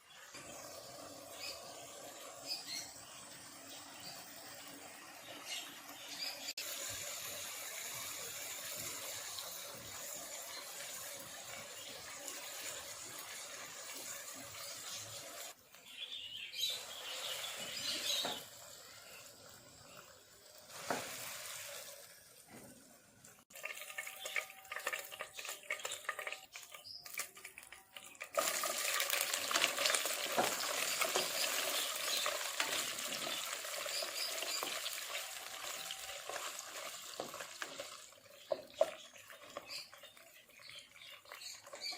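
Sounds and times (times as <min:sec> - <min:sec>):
cooking hiss: 0:00.0 - 0:41.9.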